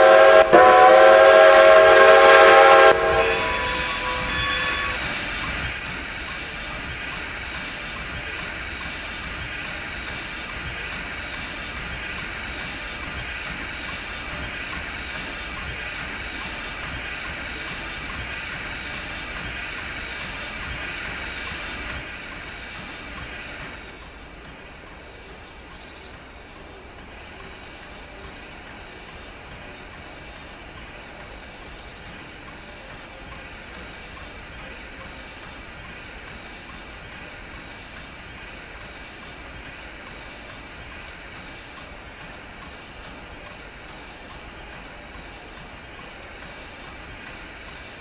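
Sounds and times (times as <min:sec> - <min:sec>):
steam train hiss and rumble: 0:00.0 - 0:48.0.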